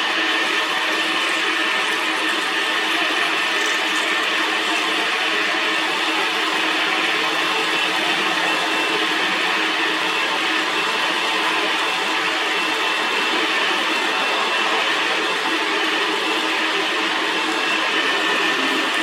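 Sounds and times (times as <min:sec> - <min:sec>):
metal lathe whirring: 0:00.0 - 0:19.0.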